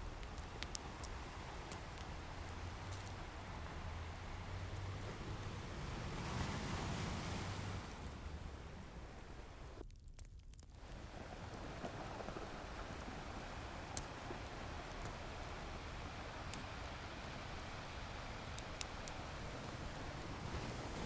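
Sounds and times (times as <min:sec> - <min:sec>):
ocean surf: 0:00.0 - 0:09.8, 0:10.8 - 0:21.0
wave breaking: 0:00.0 - 0:09.8, 0:10.8 - 0:21.0
fireplace crackles: 0:00.0 - 0:21.0.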